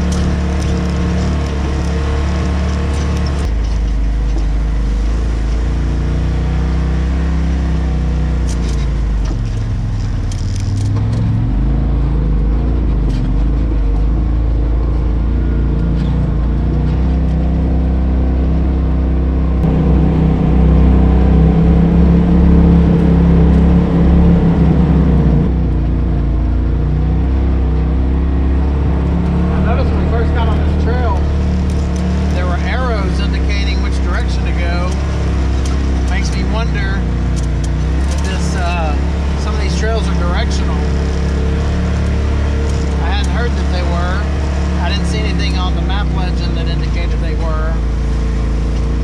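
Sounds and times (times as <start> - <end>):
off-road vehicle engine revving: 0.0 - 49.0.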